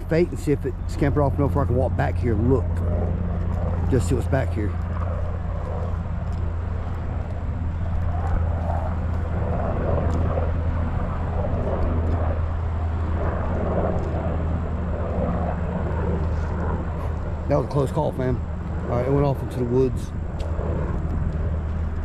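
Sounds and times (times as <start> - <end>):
footsteps on grass and sand: 0.0 - 22.0
low drone: 0.0 - 22.0.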